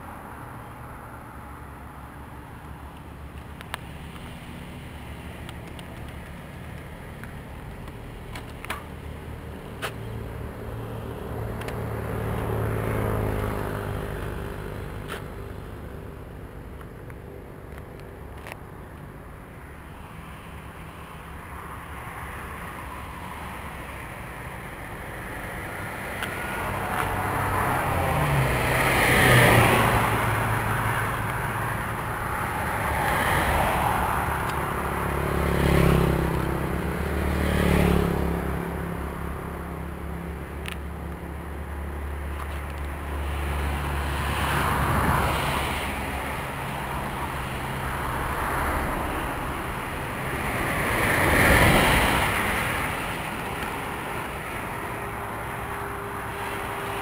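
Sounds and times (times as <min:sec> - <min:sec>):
vehicles passing close by: 0:00.0 - 0:57.0.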